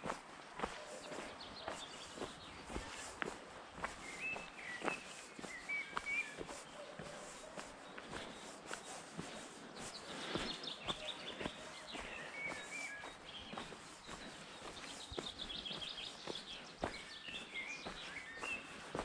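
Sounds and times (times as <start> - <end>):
footsteps on dry leaves: 0.0 - 19.0
small birds chirping: 0.0 - 19.0.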